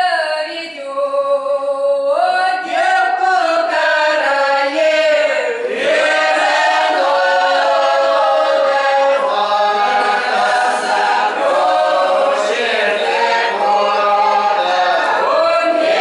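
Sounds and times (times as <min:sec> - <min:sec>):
choir singing unaccompanied: 0:02.2 - 0:16.0.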